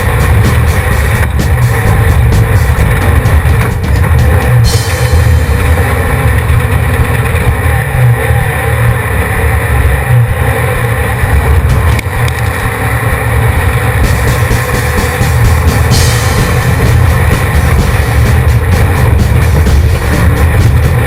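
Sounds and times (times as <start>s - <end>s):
race vehicle engine at speed: 0.0s - 21.0s.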